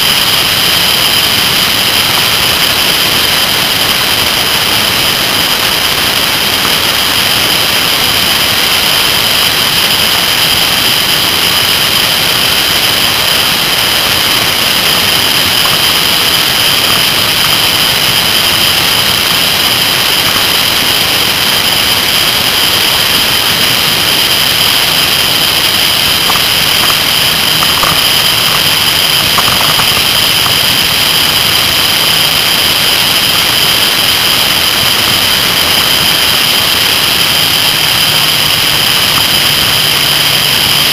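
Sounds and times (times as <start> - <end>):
motorcycle engine running: 0.0 - 40.9
wind and road rush: 0.0 - 40.9.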